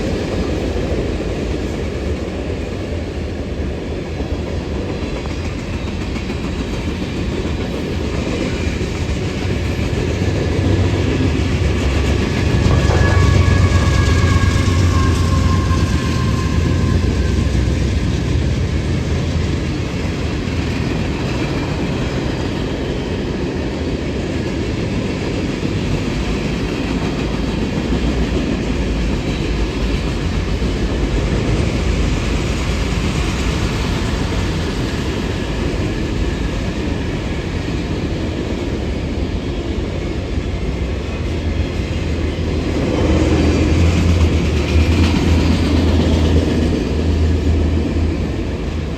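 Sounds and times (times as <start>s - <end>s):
train rolling past: 0.0s - 48.9s.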